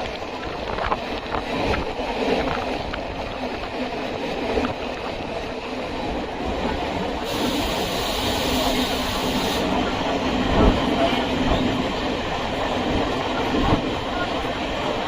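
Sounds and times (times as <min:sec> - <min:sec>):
electric train rumbling on track: 0:00.0 - 0:15.0.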